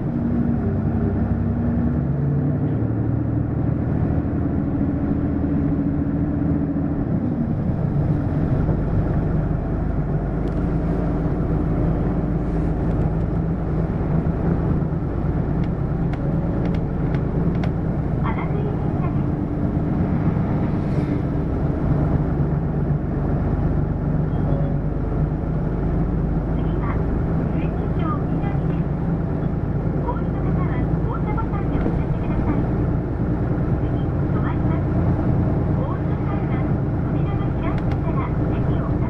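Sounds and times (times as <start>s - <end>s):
bus diesel engine: 0.0s - 39.0s
road noise: 0.0s - 39.0s.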